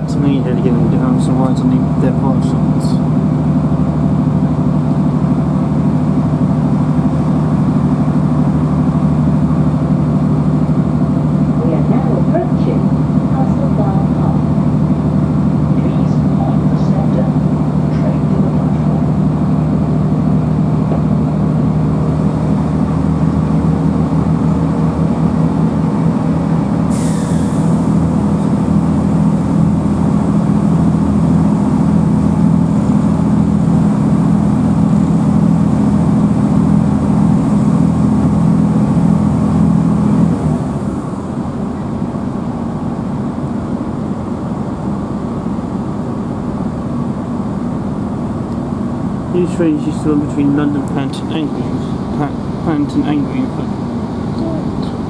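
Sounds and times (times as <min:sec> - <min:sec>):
train diesel engine droning: 0:00.0 - 0:55.0.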